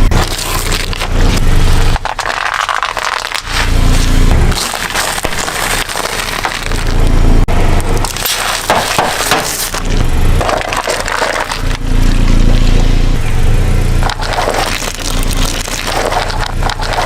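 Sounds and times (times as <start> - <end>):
car engine running low: 0.0 - 17.0
objects crunching under car tyres: 0.0 - 17.0.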